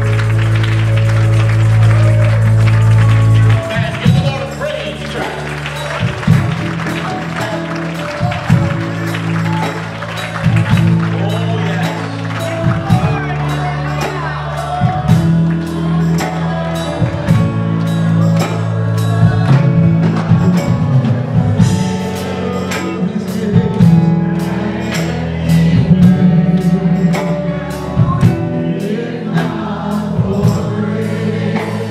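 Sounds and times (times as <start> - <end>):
held keyboard chords: 0.0 - 31.9
praise team singing: 0.0 - 31.9
steady drum beat: 0.0 - 31.9.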